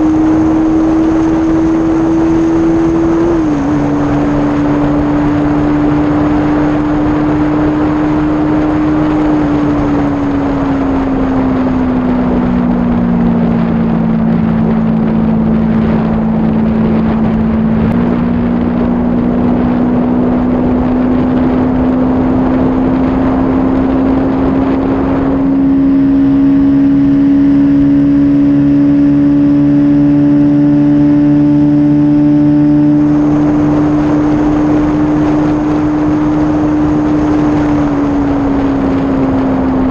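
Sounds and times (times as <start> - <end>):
motorcycle engine at high revs: 0.0 - 39.9
wind noise on microphone: 0.0 - 39.9.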